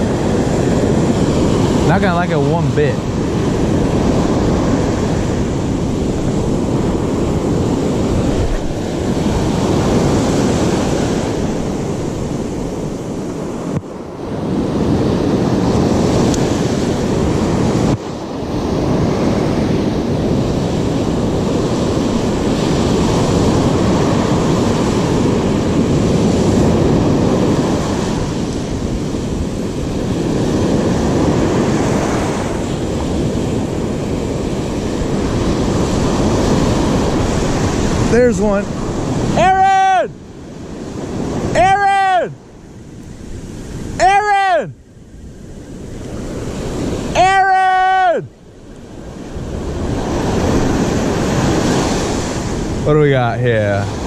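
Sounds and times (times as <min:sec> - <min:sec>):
ocean surf breaking: 0:00.0 - 0:54.0
wind on microphone: 0:00.0 - 0:54.0.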